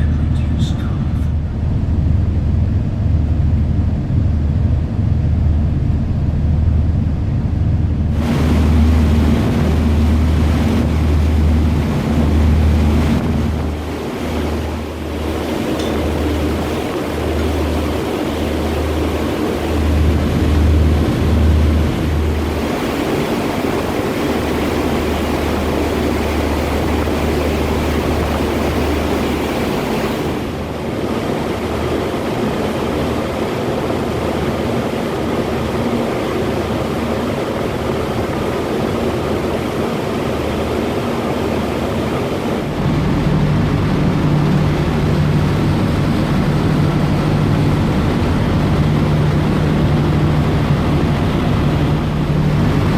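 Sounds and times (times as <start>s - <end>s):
ferry engines humming: 0.0s - 52.9s
water noise: 0.0s - 52.9s
wind: 0.0s - 52.9s.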